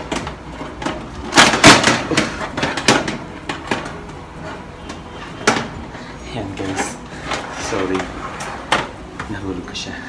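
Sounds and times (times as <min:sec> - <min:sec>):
oven rack and tray clattering: 0:00.0 - 0:09.6.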